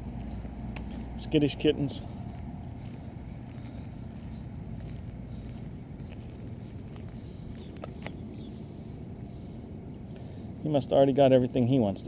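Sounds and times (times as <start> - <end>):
car engine rumbling: 0.0 - 10.7.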